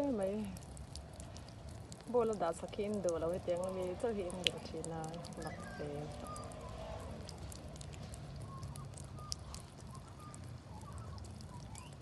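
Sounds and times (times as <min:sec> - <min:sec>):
cat lapping water: 0:00.0 - 0:12.0.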